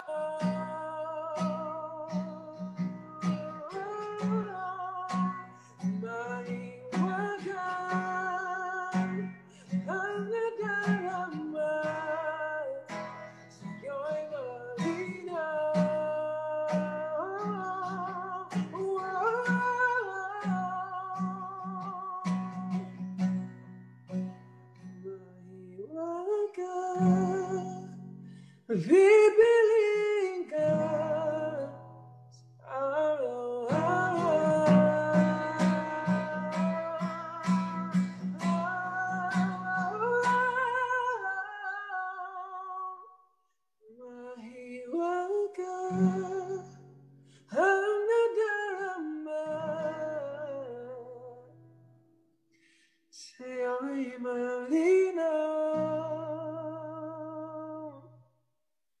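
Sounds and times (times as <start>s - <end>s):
man singing: 0.0s - 22.9s, 25.0s - 28.1s, 28.7s - 43.1s, 43.9s - 51.5s, 53.1s - 58.1s
acoustic guitar strumming: 0.0s - 43.0s, 45.0s - 52.0s, 54.4s - 58.0s.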